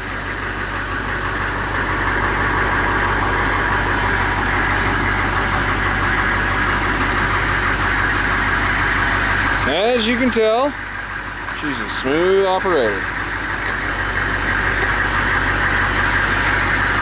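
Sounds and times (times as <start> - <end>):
hydraulic pump motor running: 0.0 - 17.0.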